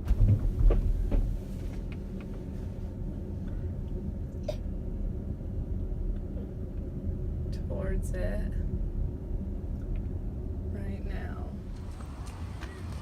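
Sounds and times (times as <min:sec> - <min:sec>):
car engine rumble: 0:00.0 - 0:13.0
road noise inside car: 0:00.0 - 0:13.0.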